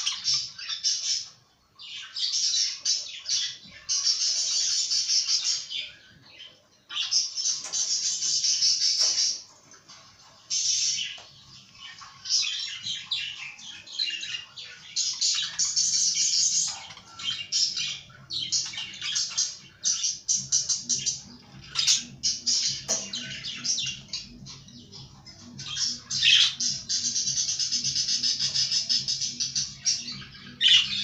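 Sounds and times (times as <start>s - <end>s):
budgerigars chattering and warbling: 0.0s - 1.4s, 2.0s - 31.0s.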